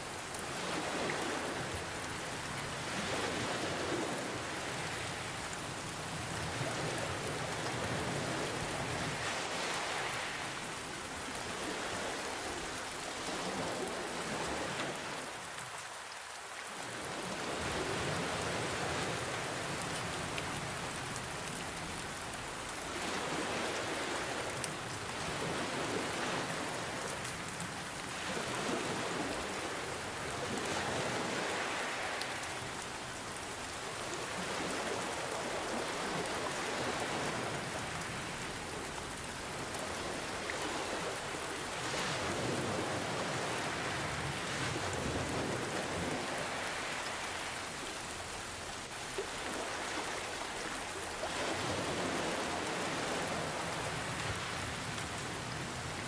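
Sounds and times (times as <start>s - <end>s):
ocean waves: 0.0s - 56.0s
steady rain: 0.0s - 56.0s.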